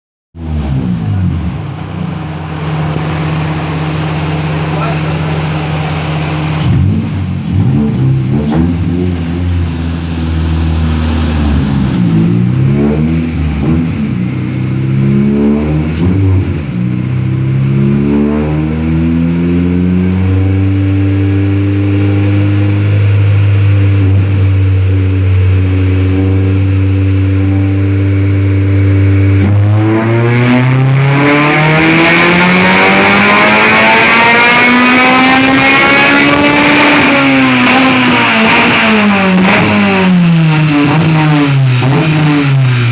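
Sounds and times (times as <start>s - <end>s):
car engine revving on dyno: 0.4s - 42.9s.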